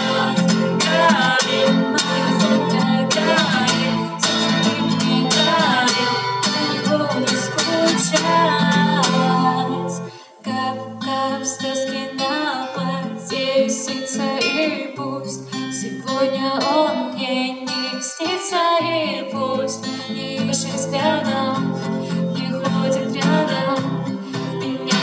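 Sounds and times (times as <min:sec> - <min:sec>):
strummed acoustic guitar: 0:00.0 - 0:25.0
woman singing into a microphone: 0:00.0 - 0:25.0.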